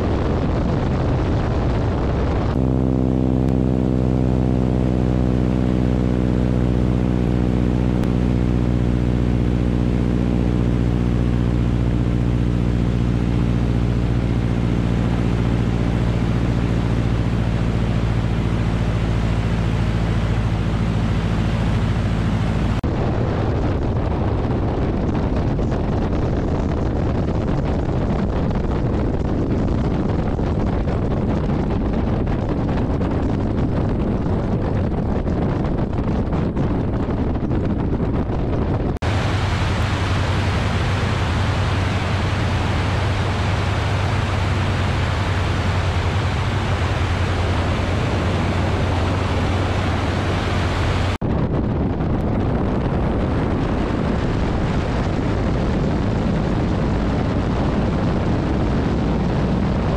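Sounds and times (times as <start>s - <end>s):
propeller plane engine drone: 0.0s - 59.9s
wind on microphone: 0.0s - 59.9s.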